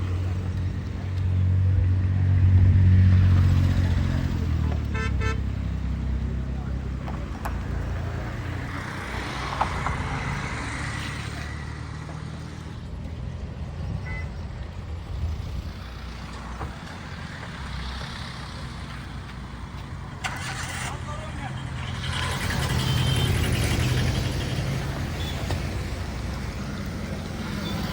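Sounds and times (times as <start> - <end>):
low engine rumble of traffic: 0.0 - 27.9.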